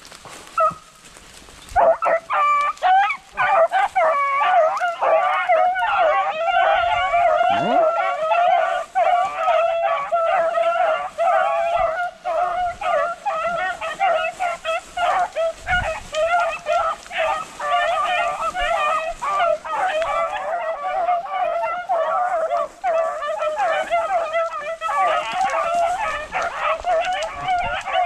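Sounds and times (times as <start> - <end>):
beagles baying: 0.5 - 1.0, 1.6 - 28.0.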